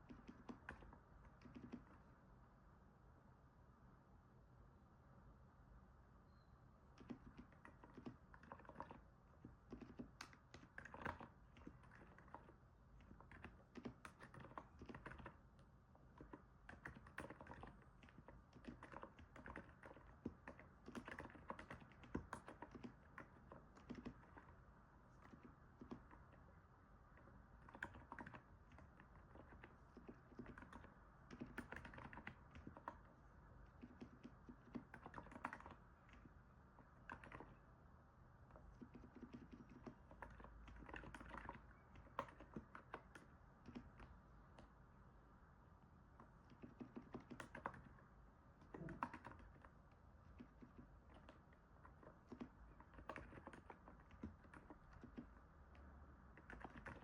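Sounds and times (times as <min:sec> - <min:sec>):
soft keyboard typing: 0:00.0 - 0:02.3, 0:06.3 - 0:57.0.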